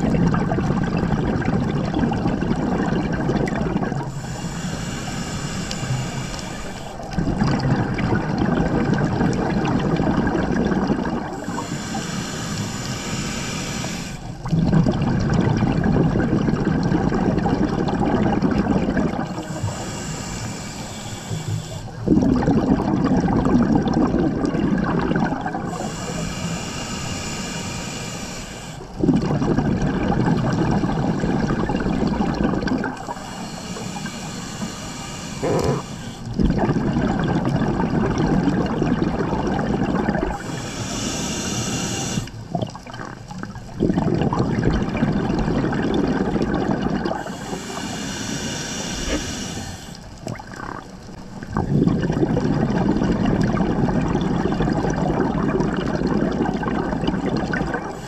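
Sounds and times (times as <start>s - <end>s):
exhaled bubbles rushing: 0.0s - 4.7s, 6.6s - 27.2s, 28.8s - 34.7s, 35.3s - 58.0s.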